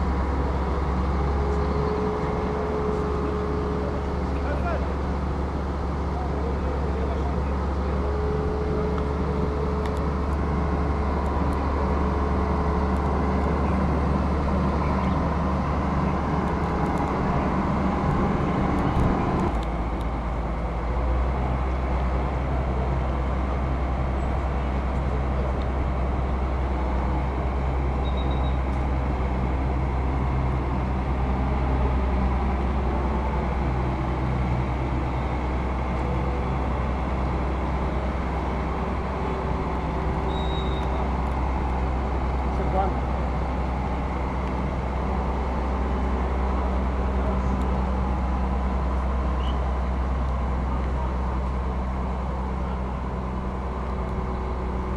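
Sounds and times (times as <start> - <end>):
heavy diesel crane engine: 0.0 - 54.9.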